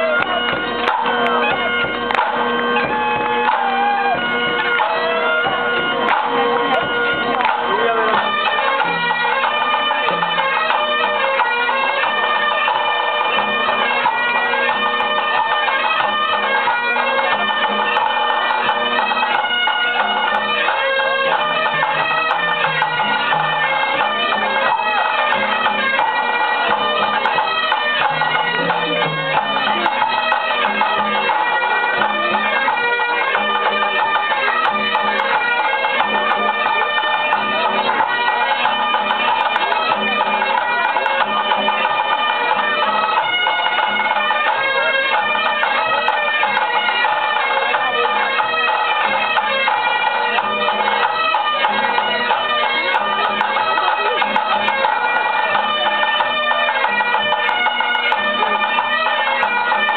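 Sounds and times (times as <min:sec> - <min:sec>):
bagpipes playing a dance tune: 0:00.0 - 0:59.9.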